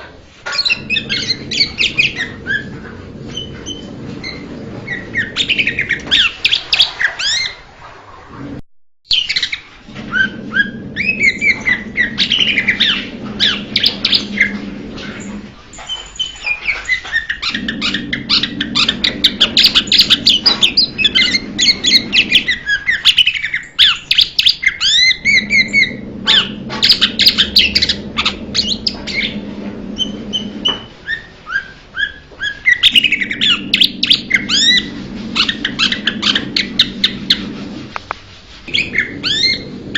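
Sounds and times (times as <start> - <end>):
low hum: 0.7 - 7.0, 9.9 - 22.7, 25.1 - 31.0, 32.9 - 39.9.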